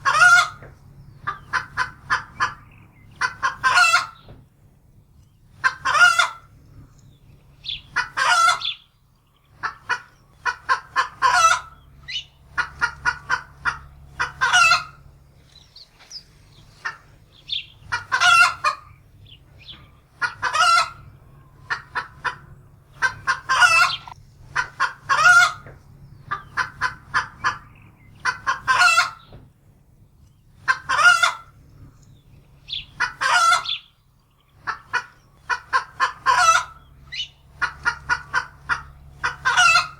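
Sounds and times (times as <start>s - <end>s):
hen cackling and squawking: 0.0s - 4.3s, 5.5s - 6.6s, 7.5s - 29.3s, 30.5s - 31.6s, 32.5s - 39.9s.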